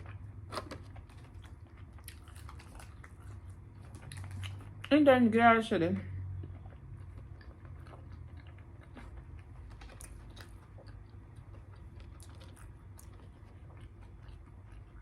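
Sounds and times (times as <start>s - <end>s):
person chewing food: 0.0s - 4.9s, 6.2s - 15.0s
steady low hum: 0.0s - 15.0s.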